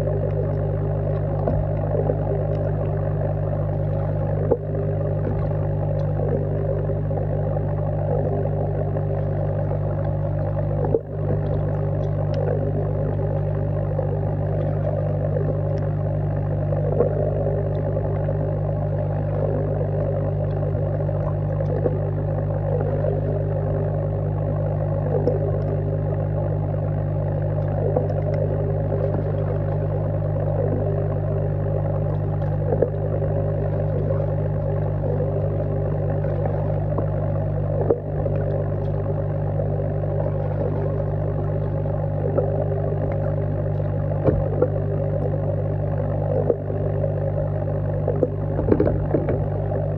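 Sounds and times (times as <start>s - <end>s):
air pump humming: 0.0s - 49.9s
air stone bubbling underwater: 0.0s - 49.9s.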